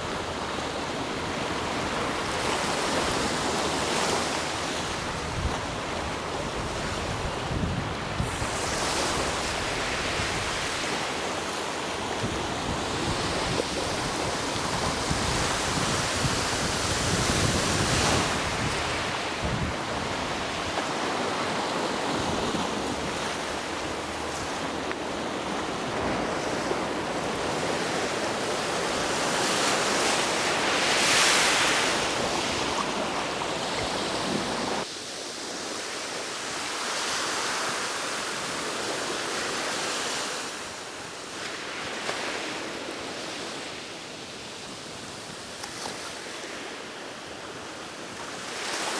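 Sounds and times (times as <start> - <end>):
waves breaking on shore: 0.0 - 48.9.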